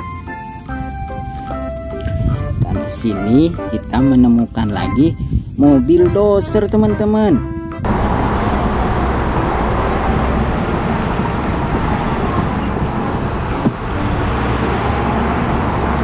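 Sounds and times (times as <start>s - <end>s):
low traffic rumble: 0.0s - 16.0s.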